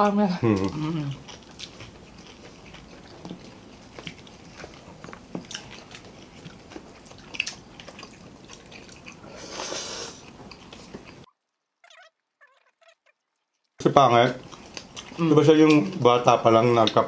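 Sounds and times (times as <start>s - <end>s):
crunching of crisp fried food: 0.4s - 17.0s
person chewing: 0.4s - 17.0s.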